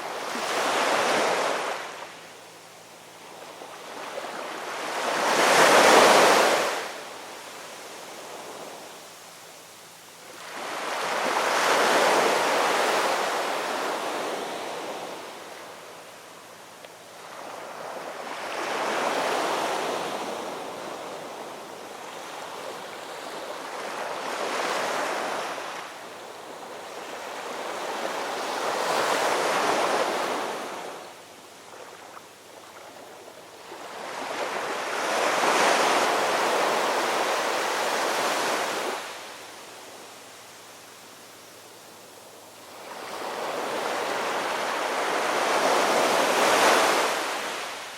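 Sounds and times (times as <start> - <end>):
ocean waves breaking on shore: 0.0 - 2.3, 3.2 - 9.0, 10.2 - 16.5, 17.1 - 40.1, 42.0 - 47.9.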